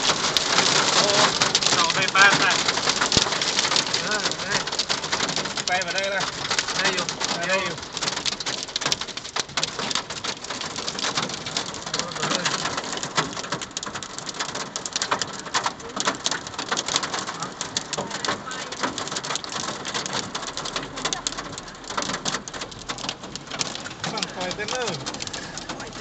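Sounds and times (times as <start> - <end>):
hail and heavy rain clattering: 0.0 - 26.0.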